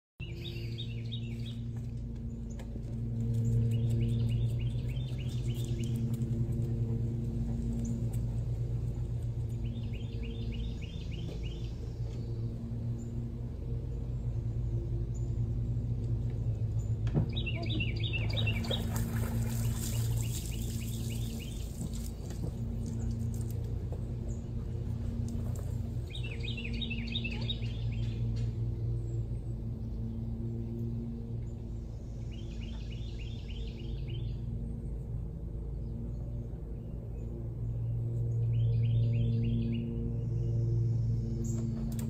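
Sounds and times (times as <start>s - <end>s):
low mechanical hum: 0.2s - 42.0s.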